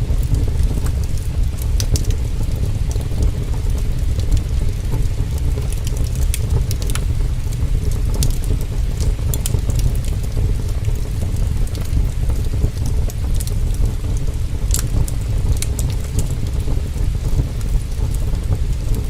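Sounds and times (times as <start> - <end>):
heavy rain: 0.0 - 19.0
wood fire crackling: 0.0 - 19.0.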